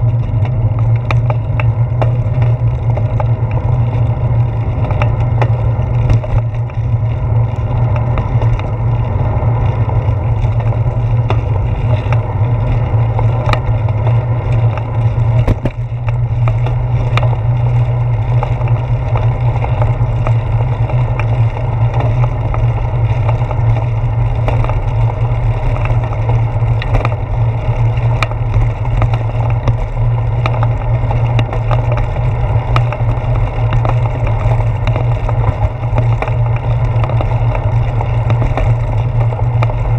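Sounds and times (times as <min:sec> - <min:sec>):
bicycle tyres on pavement: 0:00.0 - 0:39.9
bike clicks and rattles: 0:00.0 - 0:39.9
wind rumble: 0:00.0 - 0:39.9.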